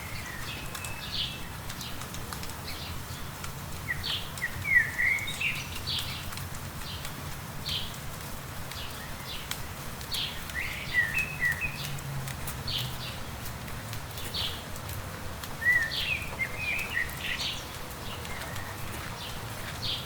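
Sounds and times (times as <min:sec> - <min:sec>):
light rain ticking: 0:00.0 - 0:20.0
songbirds chirping: 0:00.0 - 0:20.0.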